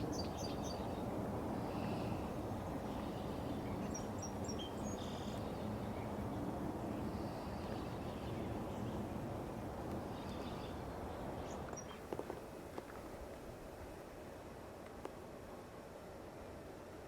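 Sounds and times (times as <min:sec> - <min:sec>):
low wind noise: 0:00.0 - 0:17.0.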